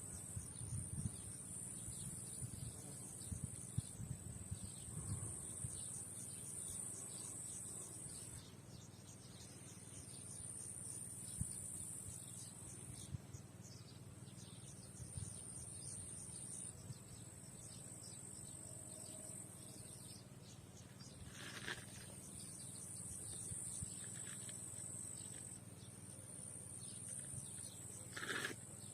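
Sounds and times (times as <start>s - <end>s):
high insect buzz: 0.0s - 13.2s, 14.4s - 28.9s.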